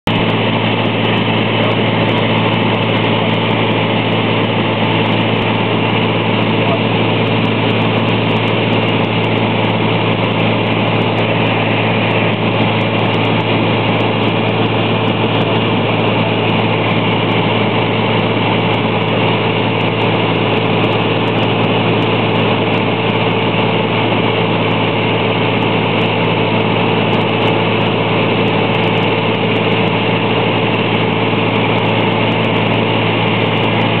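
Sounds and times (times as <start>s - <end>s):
aircraft engine drone: 0.0s - 34.0s.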